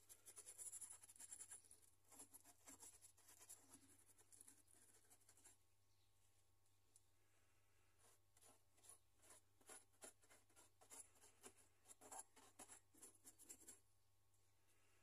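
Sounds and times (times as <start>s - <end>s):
paintbrush scratchy strokes: 0.0s - 5.6s, 7.4s - 13.8s.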